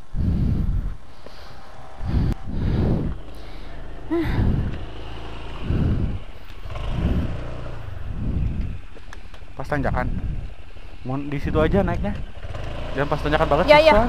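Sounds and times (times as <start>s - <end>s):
motorcycle engine at low revs: 2.0s - 14.0s.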